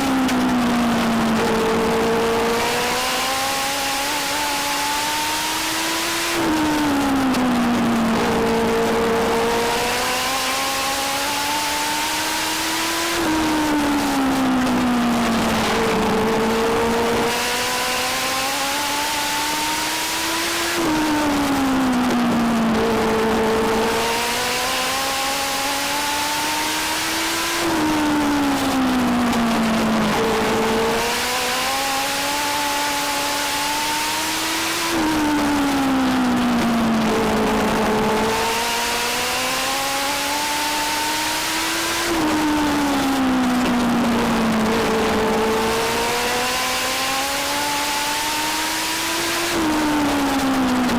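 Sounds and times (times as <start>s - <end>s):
race car engine: 0.0s - 50.9s.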